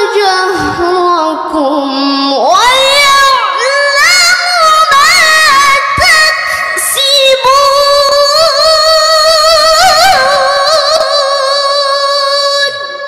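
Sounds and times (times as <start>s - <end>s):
woman reciting melodically: 0.0s - 13.0s.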